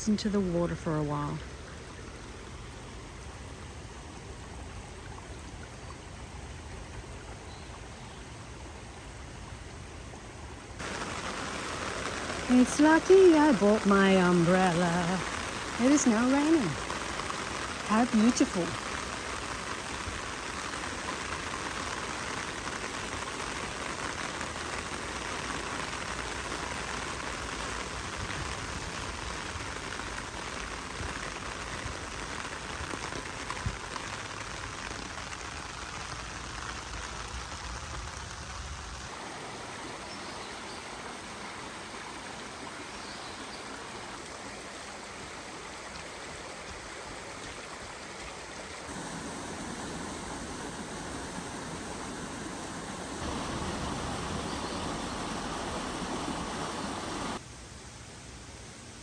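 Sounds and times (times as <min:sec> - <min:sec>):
running water: 0:00.0 - 0:58.0
rain hissing: 0:08.6 - 0:59.0.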